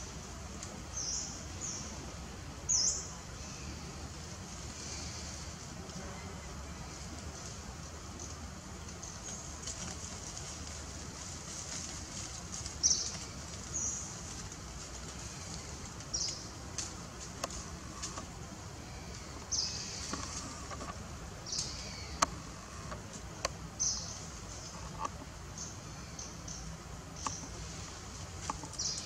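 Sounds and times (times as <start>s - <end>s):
leaves and branches rustling: 0.0s - 29.0s.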